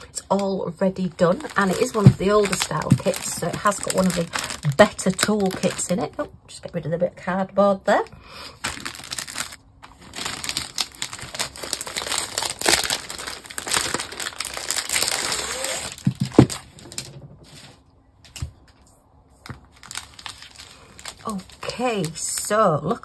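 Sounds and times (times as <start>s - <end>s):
plastic packaging crinkling: 0.0s - 6.3s, 8.5s - 18.4s, 19.4s - 23.0s.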